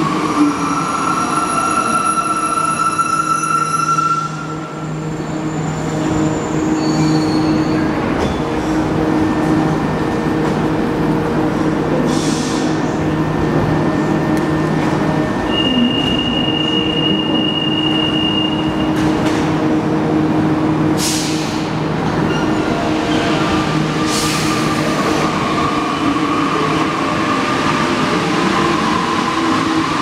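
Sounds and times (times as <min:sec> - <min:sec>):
metro train humming: 0:00.0 - 0:30.0.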